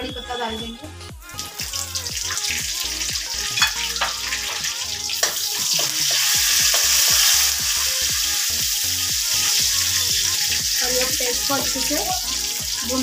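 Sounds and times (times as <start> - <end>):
leaves sizzling in hot oil: 1.4 - 13.0.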